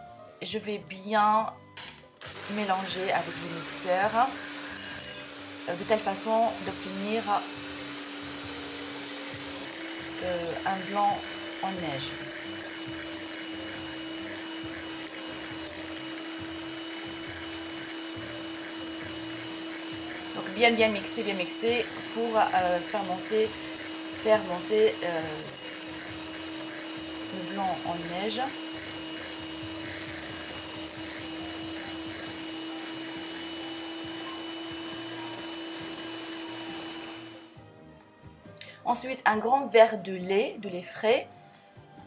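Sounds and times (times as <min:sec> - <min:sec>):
electric hand mixer whisking: 0:02.2 - 0:37.7.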